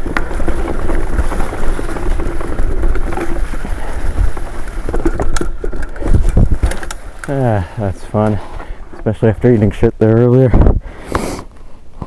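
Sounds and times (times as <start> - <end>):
bike rattling: 0.0 - 10.5
wind buffeting microphone: 0.0 - 11.0
bike tyres rumbling: 0.0 - 11.3.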